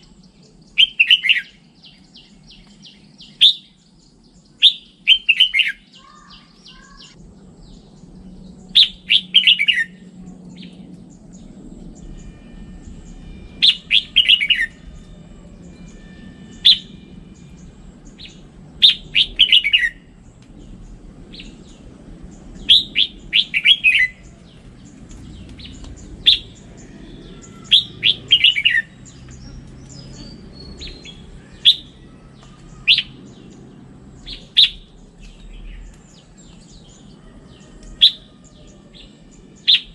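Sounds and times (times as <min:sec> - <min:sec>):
bird singing bright notes: 0:00.0 - 0:39.9
faint low hum: 0:05.9 - 0:39.9.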